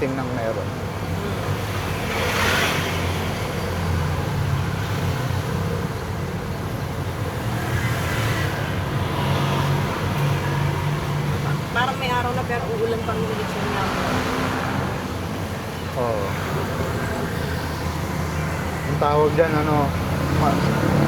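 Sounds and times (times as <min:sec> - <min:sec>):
road noise low rumble: 0:00.0 - 0:21.0.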